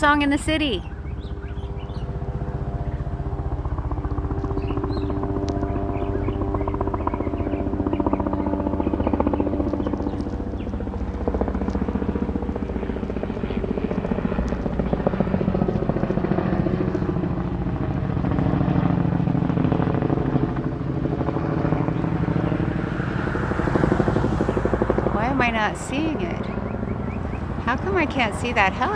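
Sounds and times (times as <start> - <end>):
helicopter engine hum: 0.0 - 28.9
helicopter rotor chop: 0.0 - 28.9.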